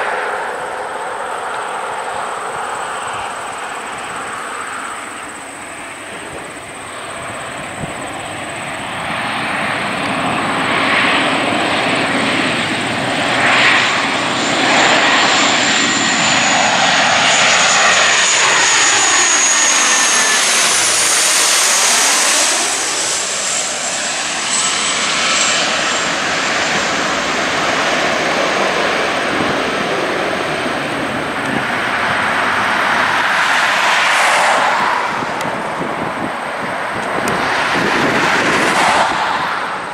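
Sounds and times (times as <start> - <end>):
turboprop aircraft drone: 0.0 - 39.9.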